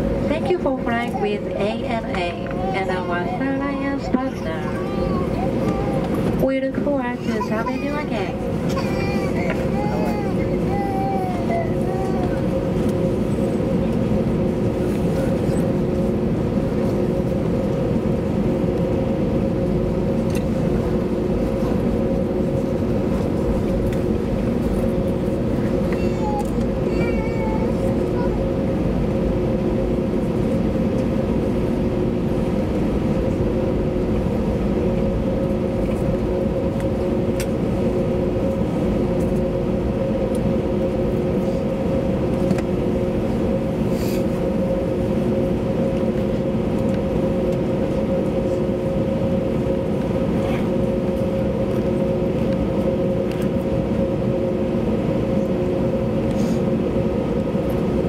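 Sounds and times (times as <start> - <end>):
aircraft engines idling drone: 0.0 - 58.0
cabin air hum: 0.0 - 58.0.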